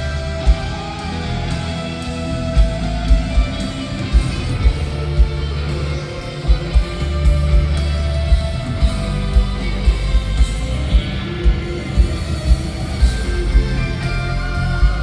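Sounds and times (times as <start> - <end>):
electric guitars and bass: 0.0 - 15.0.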